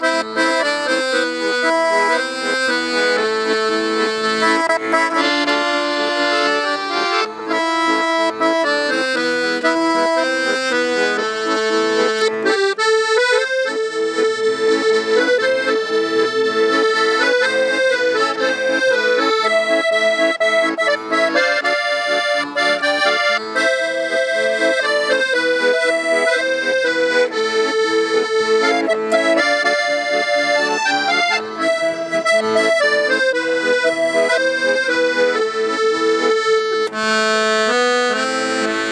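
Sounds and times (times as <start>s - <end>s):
accordion playing: 0.0s - 38.9s.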